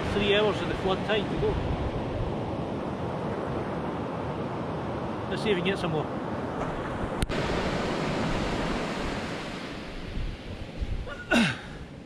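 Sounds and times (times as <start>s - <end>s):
wind on microphone: 0.0s - 5.3s, 6.2s - 12.0s
waves breaking on beach: 0.0s - 12.0s.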